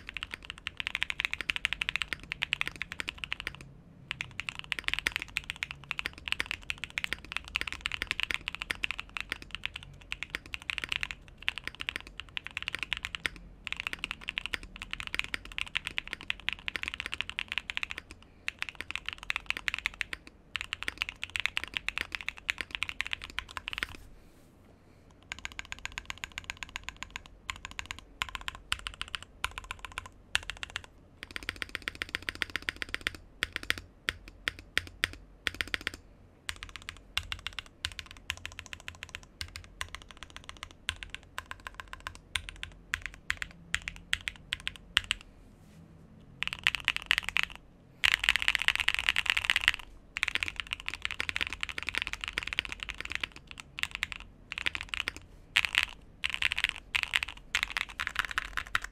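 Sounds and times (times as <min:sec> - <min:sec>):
keyboard typing: 0:00.0 - 0:24.0, 0:25.1 - 0:45.3, 0:46.3 - 0:58.9.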